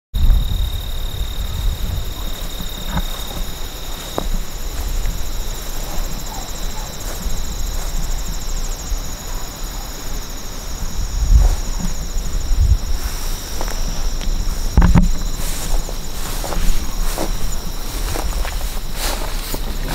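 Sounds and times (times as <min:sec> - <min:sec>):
insects trilling: 0:00.2 - 0:19.9
low rumble on microphone: 0:00.2 - 0:19.9.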